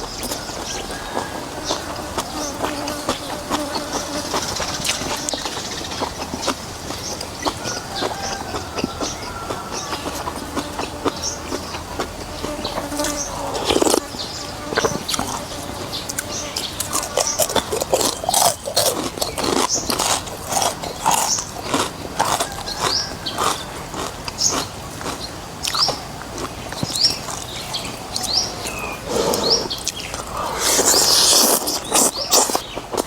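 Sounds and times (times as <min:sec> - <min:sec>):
wet chewing of noodles: 0:00.0 - 0:33.0.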